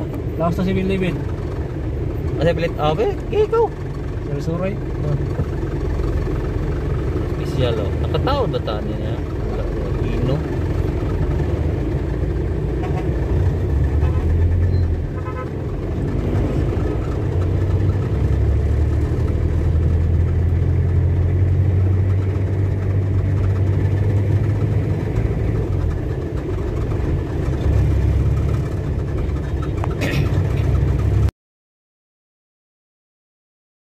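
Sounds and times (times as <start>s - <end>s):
car engine rumble: 0.0s - 31.3s
road noise: 0.0s - 31.3s.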